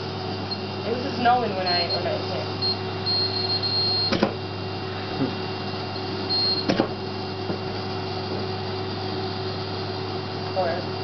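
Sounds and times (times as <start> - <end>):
laser welder humming: 0.0 - 11.0.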